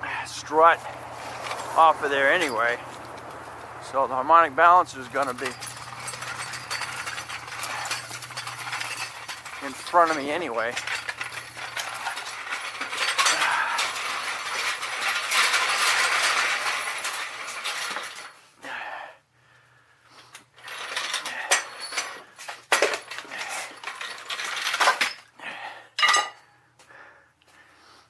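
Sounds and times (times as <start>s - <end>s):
metal tools clinking and clanking: 0.8s - 18.4s, 20.4s - 25.3s, 26.0s - 26.4s.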